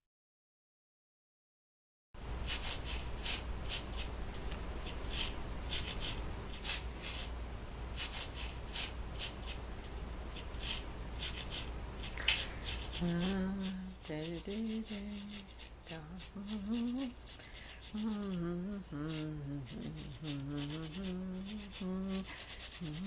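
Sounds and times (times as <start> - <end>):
low electrical hum: 2.2 - 23.0
scrubbing strokes: 2.4 - 7.3, 8.0 - 9.6, 10.3 - 18.4, 19.0 - 23.0.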